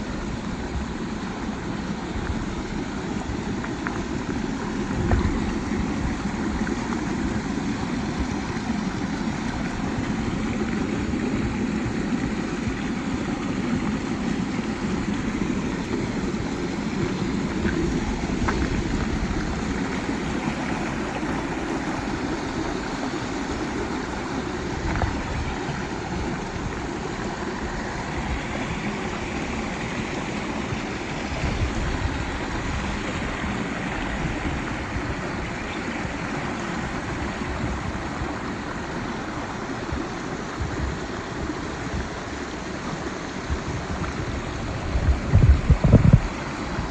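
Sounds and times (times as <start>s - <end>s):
stream rushing over rocks: 0.0s - 46.9s.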